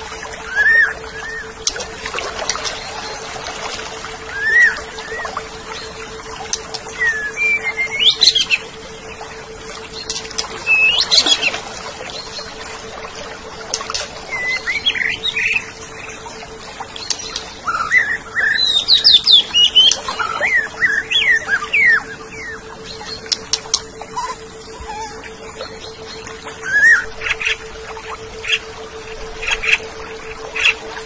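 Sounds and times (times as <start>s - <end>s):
bird singing whistled sliding notes: 0.0s - 3.2s, 4.3s - 9.2s, 9.9s - 12.5s, 13.7s - 16.2s, 17.0s - 30.8s
steady low hum: 0.0s - 31.0s.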